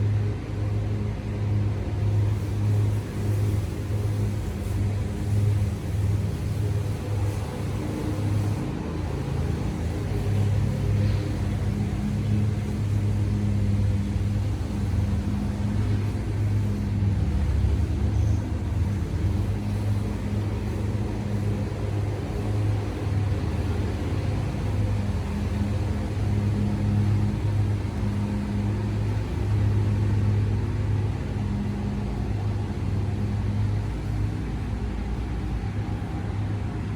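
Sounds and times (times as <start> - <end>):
low mechanical hum: 0.0 - 36.9.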